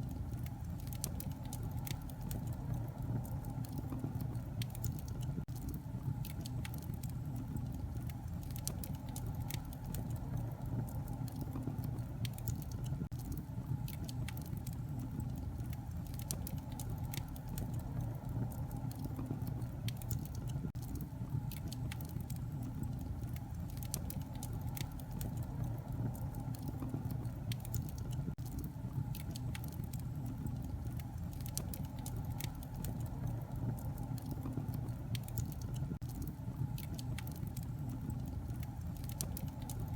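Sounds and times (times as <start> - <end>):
flames rumbling low: 0.0 - 39.9
wood fire crackling: 0.0 - 39.9.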